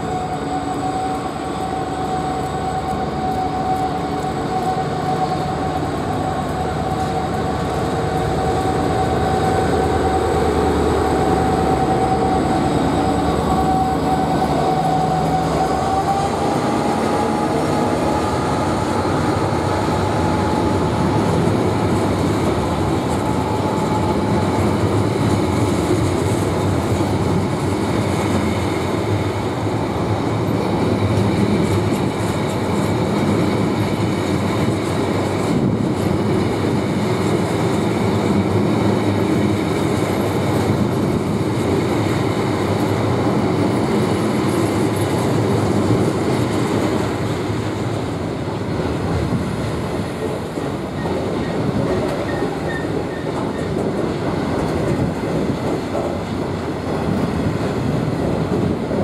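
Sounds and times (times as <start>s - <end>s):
freight train rolling past: 0.0s - 59.0s
steel wheels clattering on rails: 0.0s - 59.0s.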